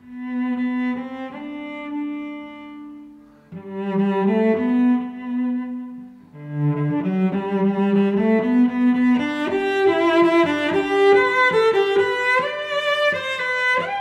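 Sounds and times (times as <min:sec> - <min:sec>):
bowed string instrument music: 0:00.0 - 0:14.0.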